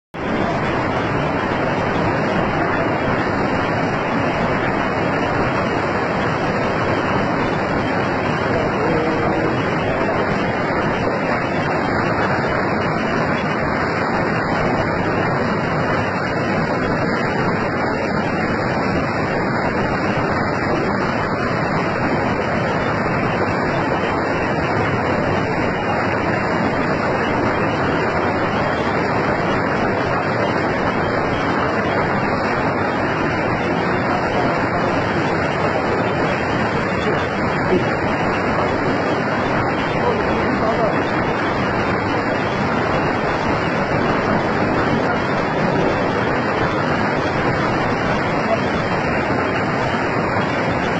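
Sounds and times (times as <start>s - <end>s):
floodwater rushing: 0.2s - 50.9s.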